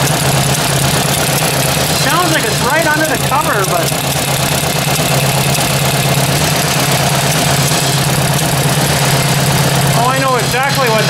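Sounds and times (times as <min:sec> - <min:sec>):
tapping under valve cover: 0:00.0 - 0:10.2
tractor engine idling: 0:00.0 - 0:11.0.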